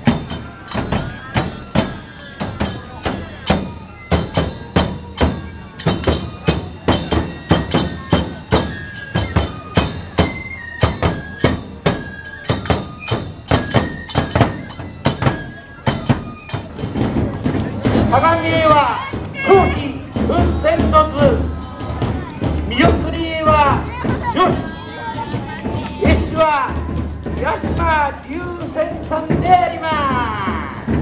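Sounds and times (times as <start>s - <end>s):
bamboo flute melody: 0.0s - 31.0s
taiko drums beating: 0.0s - 31.0s.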